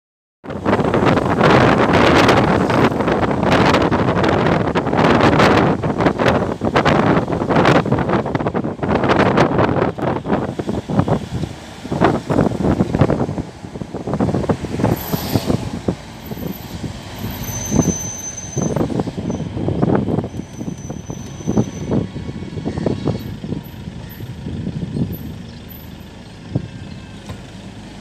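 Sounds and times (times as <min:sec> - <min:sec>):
low rumble of vehicle ride: 0:00.4 - 0:28.0
wind buffeting microphone: 0:00.4 - 0:28.0.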